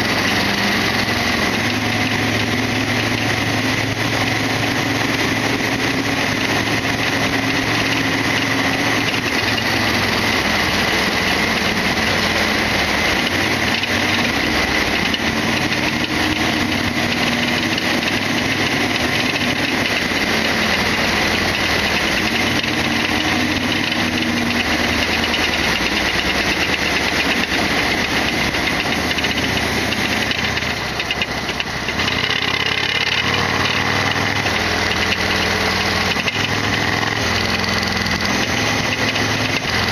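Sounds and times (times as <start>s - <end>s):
motorcycle engine running: 0.0s - 39.9s
road and air rush: 0.0s - 39.9s.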